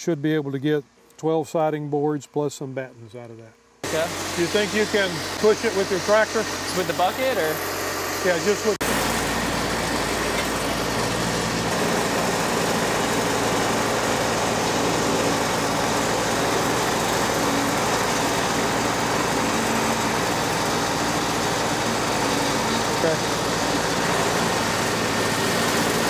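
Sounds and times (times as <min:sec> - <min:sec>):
engine running: 0:03.8 - 0:26.0.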